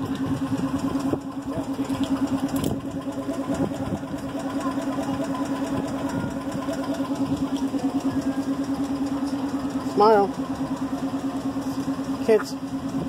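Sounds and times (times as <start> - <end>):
miniature locomotive engine idling: 0.0 - 13.0.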